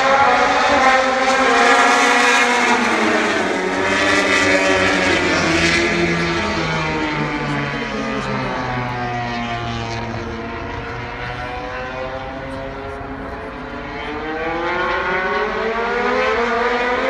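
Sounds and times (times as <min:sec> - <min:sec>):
racing motorcycle engine: 0:00.0 - 0:17.0.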